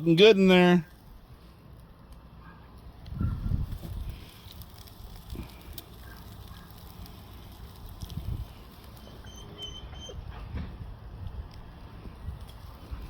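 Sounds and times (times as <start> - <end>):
chicken sizzling on a grill: 0.0 - 9.6, 10.2 - 13.0.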